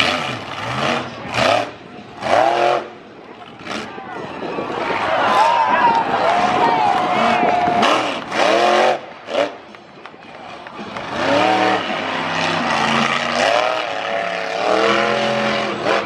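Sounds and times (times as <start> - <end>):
truck engine revving: 0.0 - 5.0, 6.0 - 16.0.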